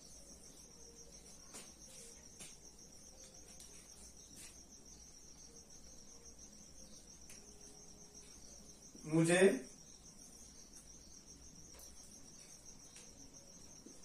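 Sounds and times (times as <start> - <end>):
cricket trilling: 0.0 - 14.0.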